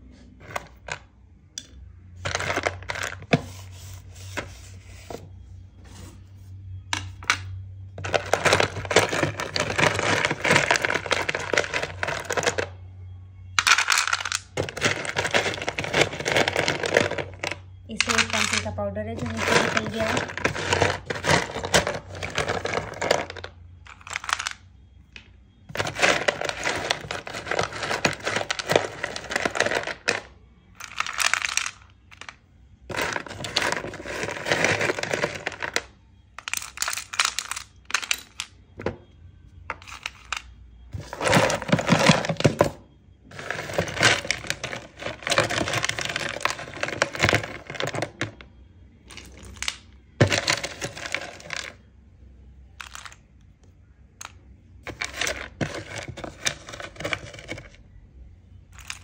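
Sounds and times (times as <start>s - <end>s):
pencil sticks clattering in plastic box: 0.4s - 3.6s, 6.9s - 12.8s, 13.6s - 24.6s, 25.7s - 38.9s, 39.7s - 48.5s, 49.1s - 51.8s, 52.8s - 53.3s, 54.2s - 57.8s, 58.8s - 59.0s.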